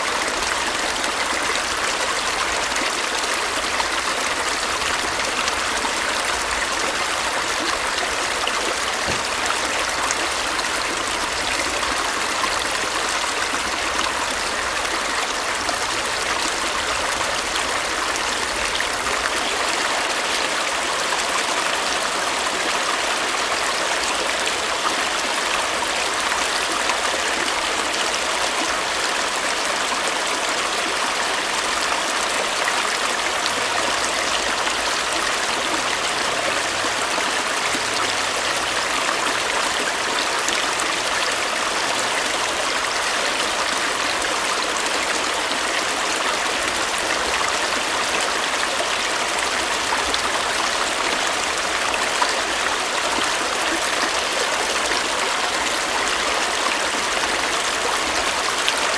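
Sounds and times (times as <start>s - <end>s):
water running over rocks: 0.0s - 58.9s.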